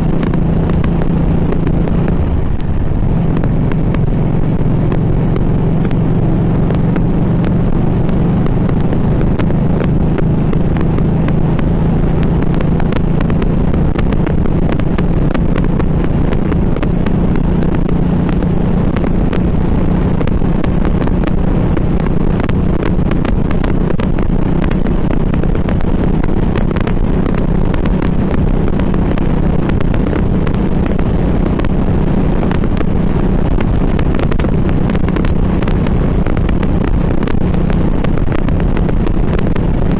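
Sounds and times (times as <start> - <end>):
motorcycle engine cruising: 0.0 - 39.9
wind buffeting microphone: 0.0 - 39.9.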